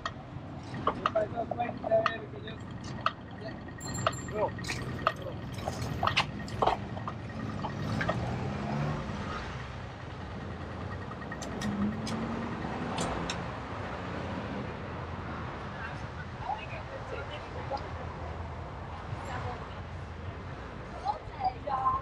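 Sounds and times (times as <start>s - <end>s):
motor vehicle running: 0.0s - 22.0s
road and wind noise: 0.0s - 22.0s.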